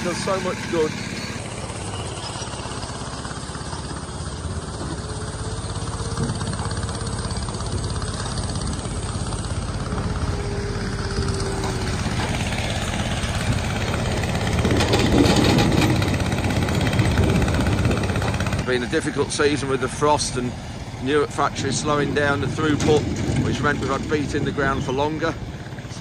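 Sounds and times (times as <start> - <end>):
diesel farm machinery running: 0.0 - 26.0.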